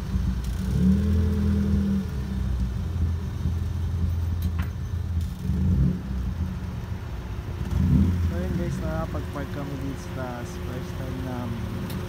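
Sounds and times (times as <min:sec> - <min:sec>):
car engine running low: 0:00.0 - 0:12.0.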